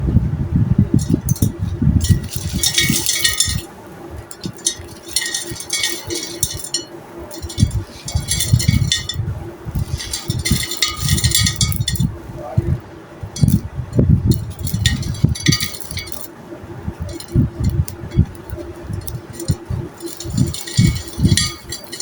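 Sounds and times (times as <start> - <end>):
hard pieces clinking: 1.0 - 9.2, 9.8 - 12.1, 13.4 - 13.6, 14.3 - 16.3, 17.0 - 22.0.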